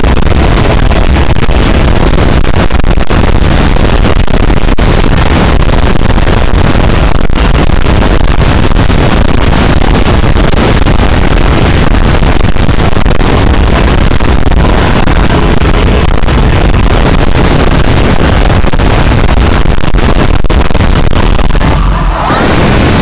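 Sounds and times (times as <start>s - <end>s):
distorted concert rumble: 0.0s - 23.0s.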